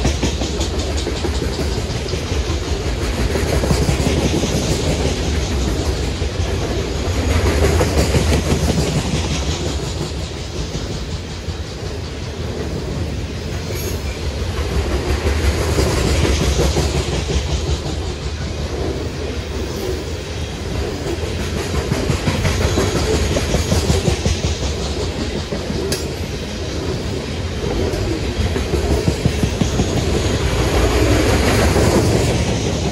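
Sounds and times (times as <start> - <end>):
freight train rumbling past: 0.0 - 32.9
wheels clicking on rail joints: 0.0 - 32.9.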